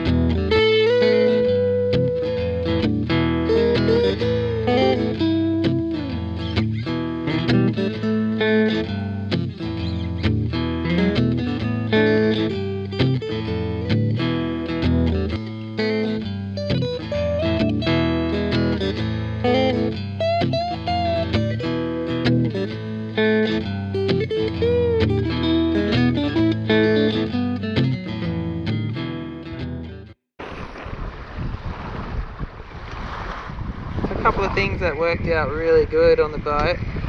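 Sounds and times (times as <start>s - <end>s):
plucked guitar music: 0.0s - 30.2s.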